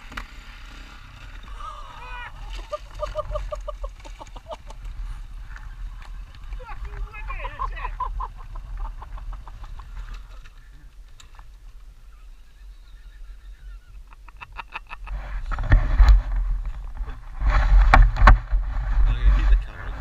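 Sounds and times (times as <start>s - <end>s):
dirt bike engine rumble: 0.0s - 14.0s, 14.8s - 20.0s.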